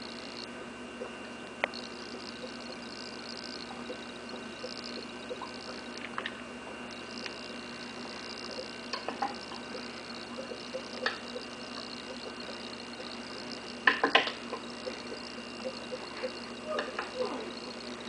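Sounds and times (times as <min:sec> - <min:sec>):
steady background hum: 0:00.0 - 0:18.0
fish lip-smacking clicks and pops: 0:00.2 - 0:06.4, 0:07.0 - 0:18.0.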